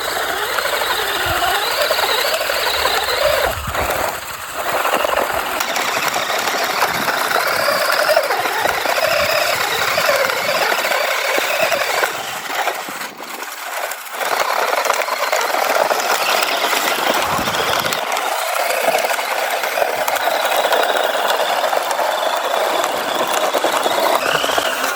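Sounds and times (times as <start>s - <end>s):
electric motor whirring: 0.0s - 24.9s
gears chattering: 0.0s - 24.9s.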